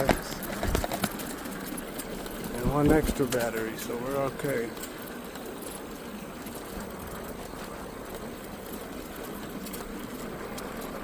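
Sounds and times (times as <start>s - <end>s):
tyres rolling: 0.0s - 11.0s.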